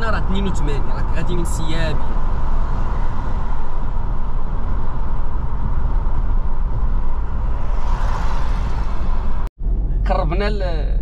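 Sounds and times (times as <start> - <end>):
wind and road hiss: 0.0 - 10.0
engine and tyre rumble: 0.0 - 11.0.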